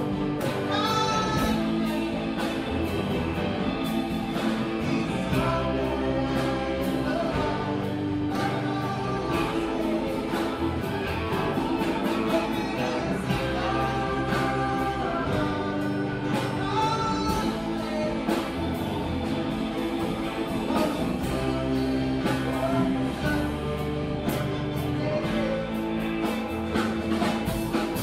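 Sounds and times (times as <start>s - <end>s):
electric guitar: 0.0s - 28.0s
steady drum beat: 0.0s - 28.0s.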